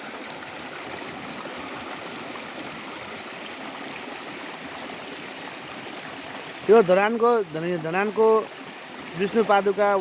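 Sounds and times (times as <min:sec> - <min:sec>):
stream water flowing: 0:00.0 - 0:10.0.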